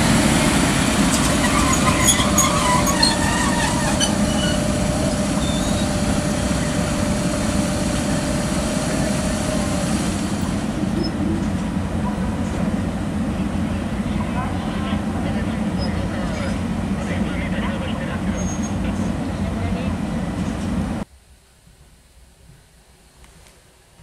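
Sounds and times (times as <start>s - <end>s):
thin steady whine: 0.0s - 21.1s
vehicle engine rumble: 0.0s - 21.1s.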